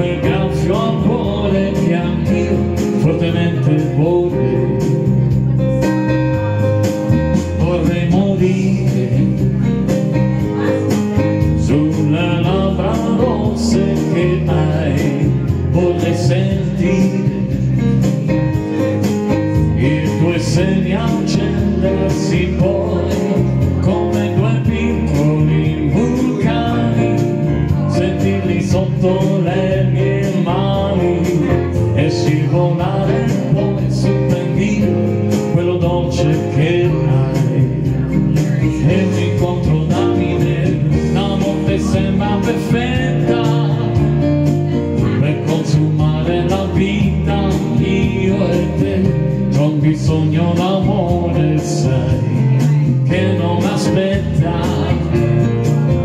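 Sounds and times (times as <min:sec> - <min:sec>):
electronic keyboard with beat: 0:00.0 - 0:56.0
man singing into microphone: 0:00.0 - 0:56.0.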